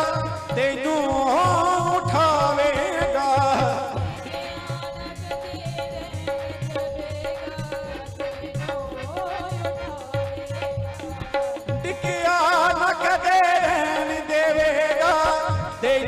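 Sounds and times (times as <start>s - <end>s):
person singing devotional song: 0.0s - 16.0s
steady drum beat: 0.0s - 16.0s.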